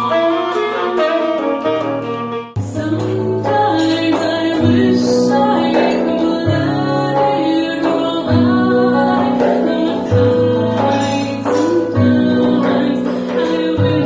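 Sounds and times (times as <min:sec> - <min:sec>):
keyboard chords: 0:00.0 - 0:14.0
woman singing: 0:02.6 - 0:14.0.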